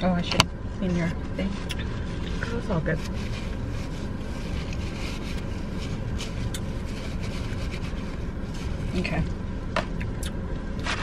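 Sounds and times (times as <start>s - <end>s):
low rumble inside car: 0.0s - 11.0s.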